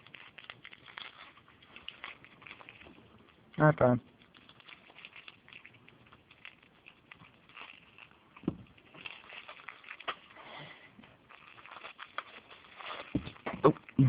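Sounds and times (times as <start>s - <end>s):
plastic package crinkling and clicking: 0.0s - 14.0s.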